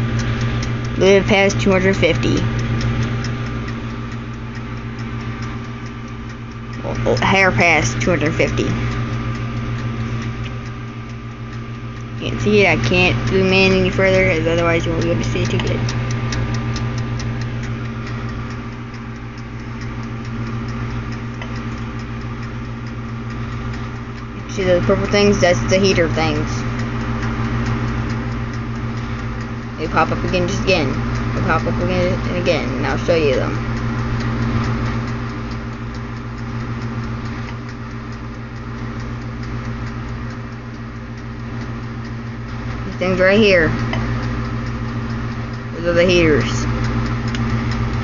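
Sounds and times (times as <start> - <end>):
mechanical timer ticking: 0.0 - 48.0
steady low hum: 0.0 - 48.0.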